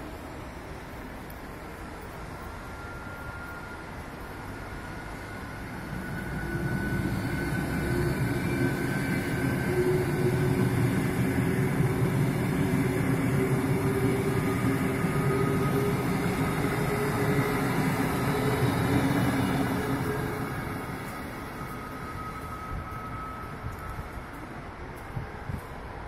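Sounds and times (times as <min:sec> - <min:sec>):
faint steady tones: 0:00.0 - 0:26.0
train wheels rushing on rail: 0:00.0 - 0:26.0.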